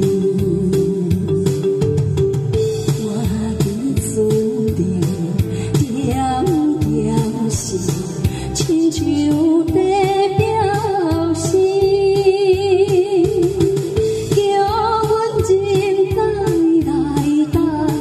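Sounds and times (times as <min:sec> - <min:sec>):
backing track with steady beat: 0:00.0 - 0:18.0
woman singing into microphone: 0:00.0 - 0:18.0.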